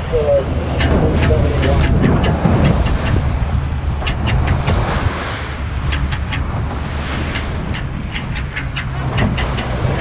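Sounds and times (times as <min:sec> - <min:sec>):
choppy water: 0:00.0 - 0:10.0
motorboat engine drone: 0:00.0 - 0:10.0
wind buffeting microphone: 0:00.0 - 0:10.0.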